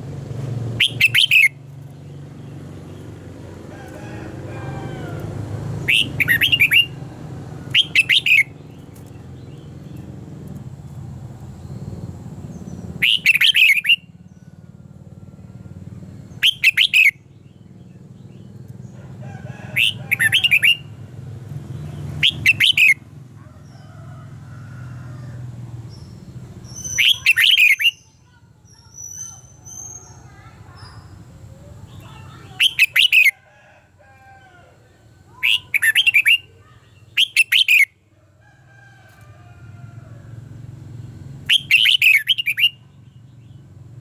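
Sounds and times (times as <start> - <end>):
bird singing: 0.8 - 3.6, 4.5 - 10.3, 10.9 - 19.2, 19.8 - 24.0, 25.2 - 33.5, 34.2 - 38.0, 41.0 - 43.8.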